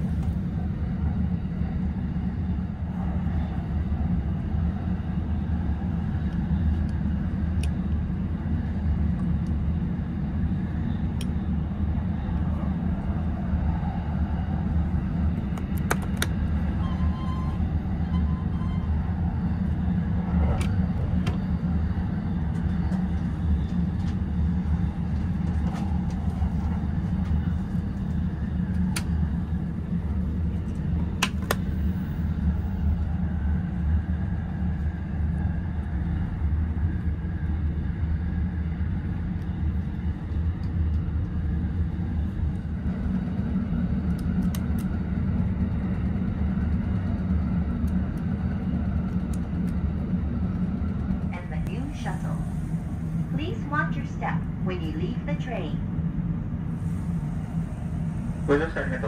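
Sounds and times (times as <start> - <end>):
train car rumble: 0.0 - 59.0.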